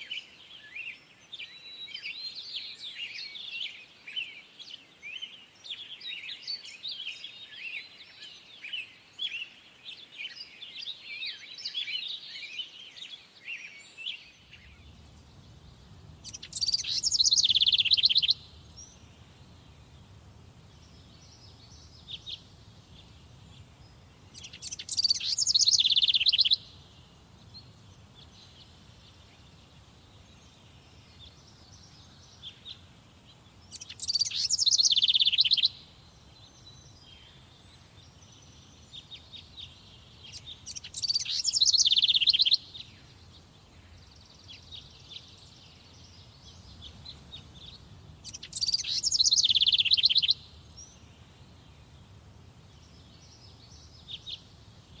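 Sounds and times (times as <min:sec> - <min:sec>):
faint chirps of other birds: 0:00.0 - 0:55.0
songbird singing loud phrase: 0:00.0 - 0:55.0.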